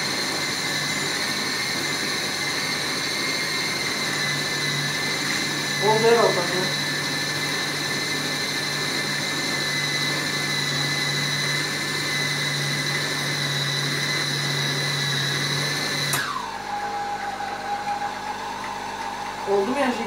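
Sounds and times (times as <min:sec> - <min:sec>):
food processor motor whining: 0:00.0 - 0:20.0.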